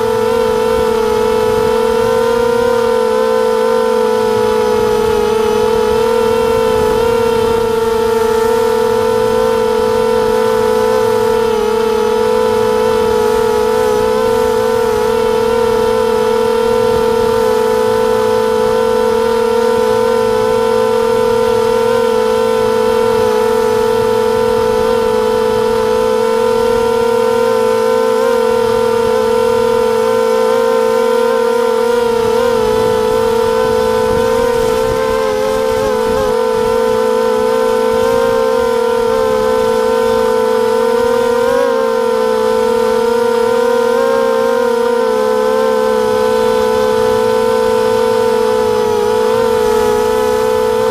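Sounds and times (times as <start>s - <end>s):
quadcopter propellers whining: 0.0s - 50.9s.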